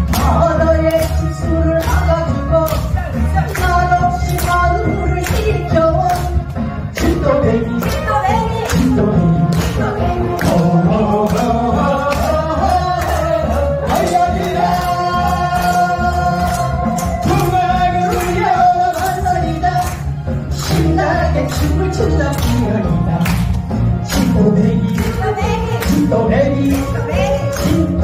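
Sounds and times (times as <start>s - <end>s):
audience clapping along: 0.0s - 28.0s
backing track with steady beat: 0.0s - 28.0s
male-female duet singing: 0.2s - 6.4s, 7.0s - 20.0s, 24.1s - 28.0s.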